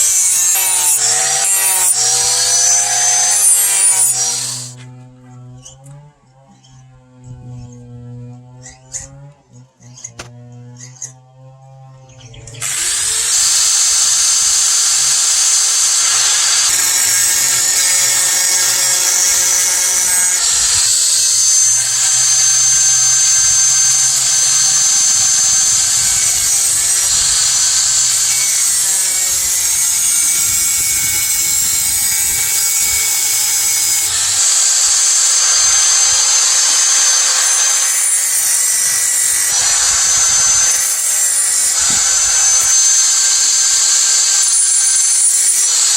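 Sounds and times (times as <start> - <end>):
power tool whining under load: 0.0 - 45.9.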